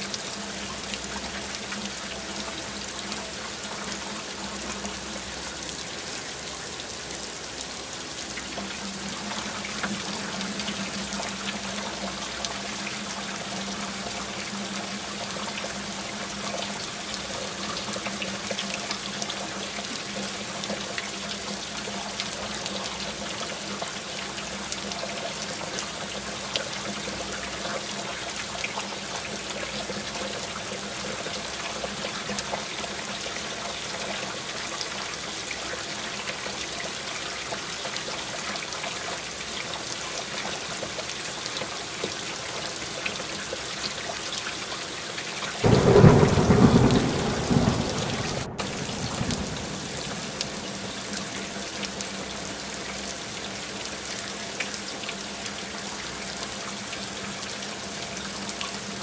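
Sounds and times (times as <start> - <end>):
steady rain falling: 0.0 - 59.0
water dripping and trickling: 0.0 - 59.0.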